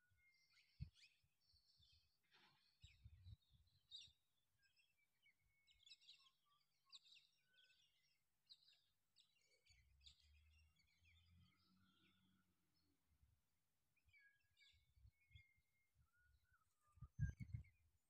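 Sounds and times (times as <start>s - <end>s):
faint bird chirps: 0.0s - 12.9s, 14.0s - 18.0s.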